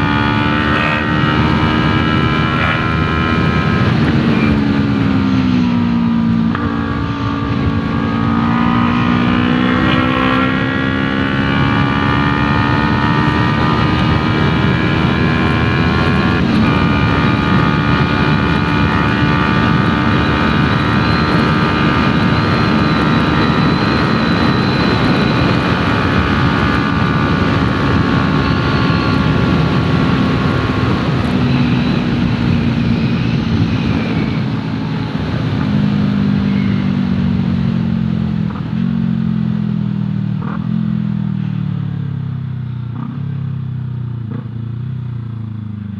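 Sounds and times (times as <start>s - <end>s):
motorcycle engine revving: 0.0s - 41.5s.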